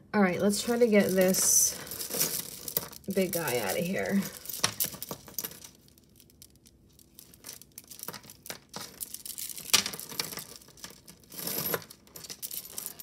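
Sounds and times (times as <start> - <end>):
plastic beads clicking and rattling: 0.6 - 13.0.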